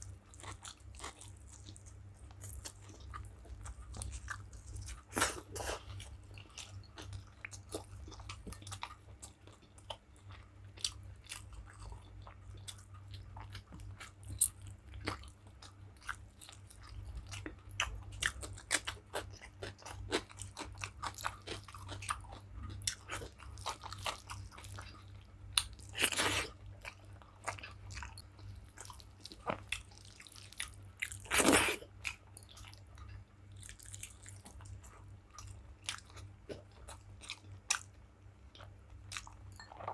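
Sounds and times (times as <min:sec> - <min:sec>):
chewing and eating: 0:00.0 - 0:39.9.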